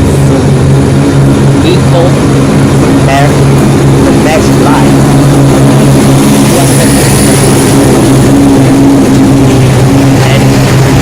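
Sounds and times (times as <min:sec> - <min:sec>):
diesel train engine drone: 0:00.0 - 0:11.0
faint high whine: 0:00.0 - 0:11.0.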